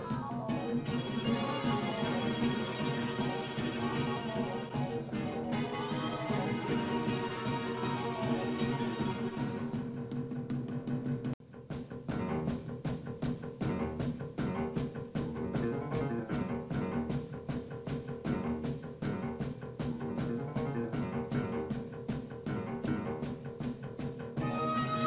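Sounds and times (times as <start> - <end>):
background music with steady beat: 0.0 - 25.0.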